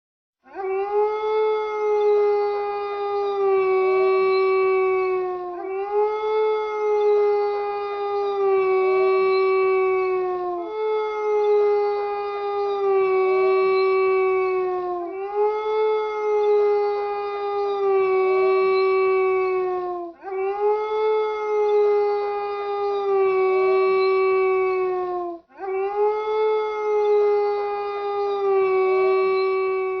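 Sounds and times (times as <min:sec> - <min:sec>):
wolf howling: 0:00.5 - 0:30.0.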